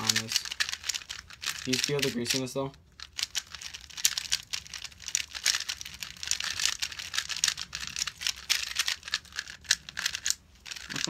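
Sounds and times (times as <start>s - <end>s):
plastic puzzle cubes clicking: 0.0s - 11.0s.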